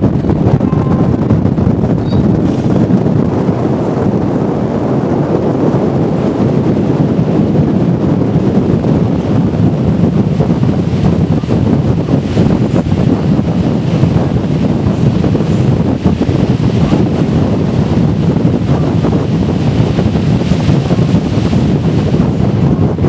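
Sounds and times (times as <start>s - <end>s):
wind blowing across microphone: 0.0s - 23.0s.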